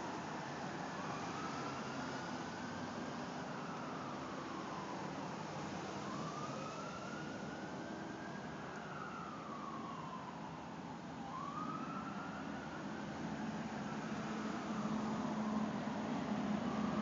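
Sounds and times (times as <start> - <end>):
traffic hum: 0.0 - 17.0
distant siren wailing: 0.4 - 17.0.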